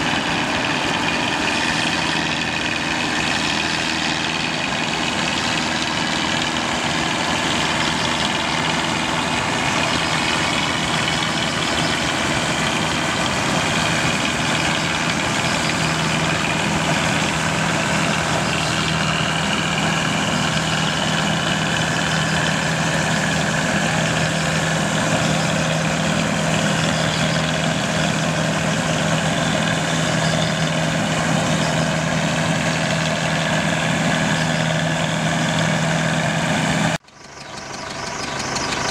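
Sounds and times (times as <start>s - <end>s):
engine hum: 0.0s - 38.9s
threshing machinery whir: 0.0s - 38.9s.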